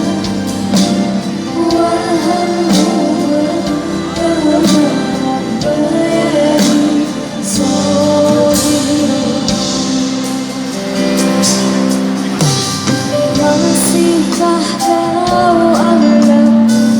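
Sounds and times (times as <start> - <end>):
live band music: 0.0 - 16.9
person singing: 0.0 - 16.9.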